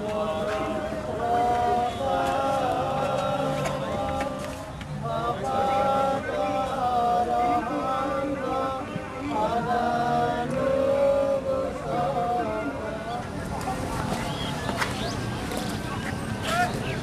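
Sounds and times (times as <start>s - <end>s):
men chanting a prayer: 0.0s - 14.2s.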